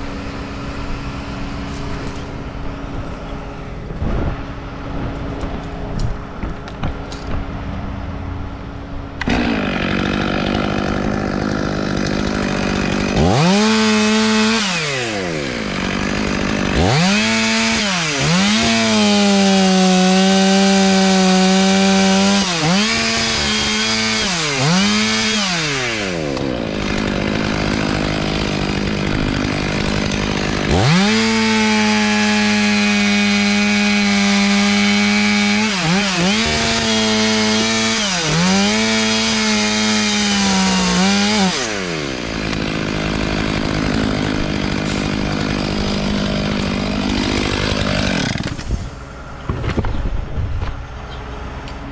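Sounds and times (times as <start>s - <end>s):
chainsaw cutting wood: 0.0s - 7.7s, 9.1s - 49.9s.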